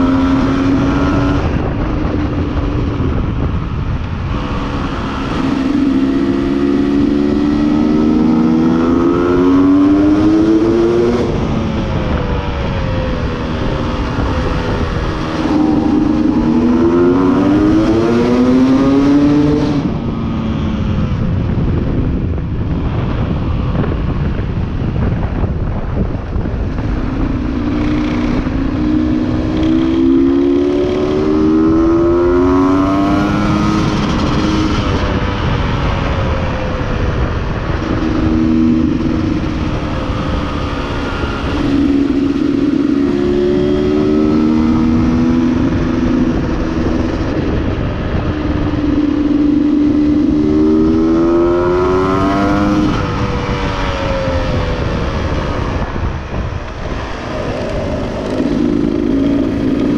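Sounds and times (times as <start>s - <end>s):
two-stroke motorcycle engine revving: 0.0s - 21.6s, 26.2s - 59.9s
wind noise on microphone: 0.0s - 59.9s.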